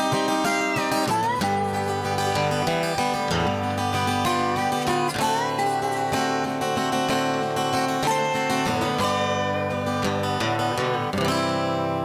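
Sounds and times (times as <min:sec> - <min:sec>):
slide resonator guitar: 0:00.0 - 0:12.0.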